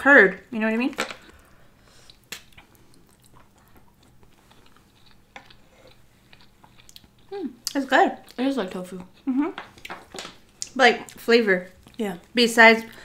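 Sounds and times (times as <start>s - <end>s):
faint chewing: 1.1s - 13.0s.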